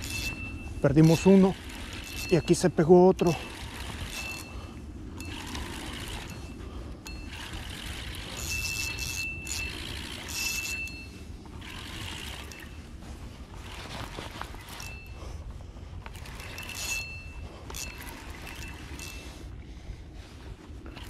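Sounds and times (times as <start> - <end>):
fishing reel whirring: 0.0 - 21.0
steady low rumble: 0.0 - 21.0.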